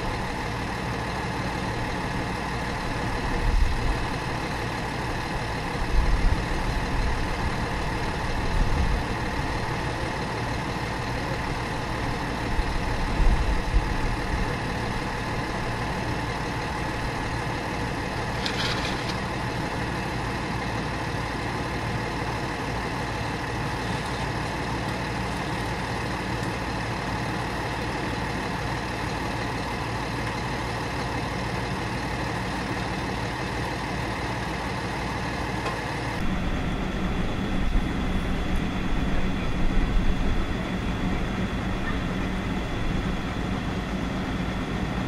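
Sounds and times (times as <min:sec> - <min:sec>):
diesel truck engines idling: 0:00.0 - 0:45.0
fire truck engine idling: 0:00.0 - 0:45.0.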